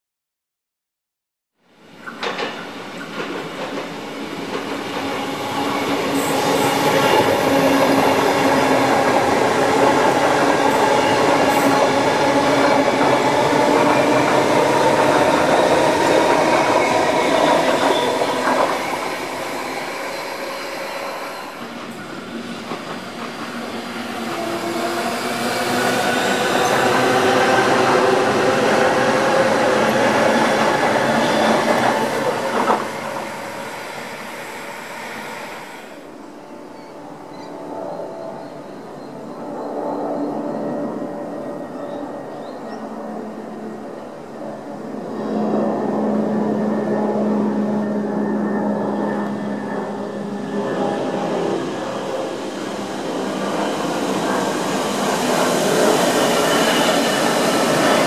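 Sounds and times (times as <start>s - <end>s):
train wheels rumbling on rail: 1.9s - 36.2s, 39.5s - 58.0s.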